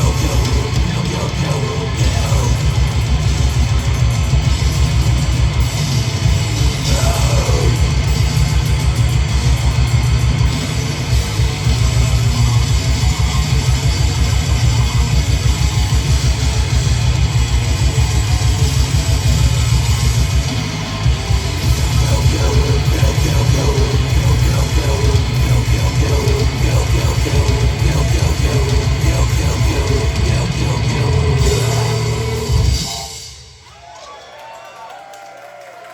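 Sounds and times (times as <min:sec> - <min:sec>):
fast driving drums: 0:00.0 - 0:33.6
distorted electric guitars: 0:00.0 - 0:33.7.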